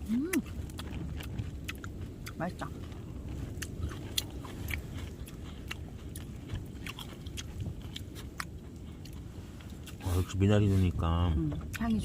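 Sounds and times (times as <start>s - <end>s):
person chewing food: 0.0s - 11.0s
low rumble: 0.0s - 12.0s.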